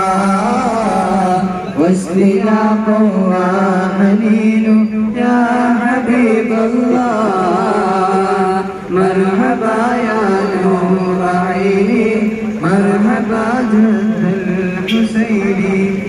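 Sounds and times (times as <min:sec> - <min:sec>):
man chanting devotional melody: 0:00.0 - 0:16.0.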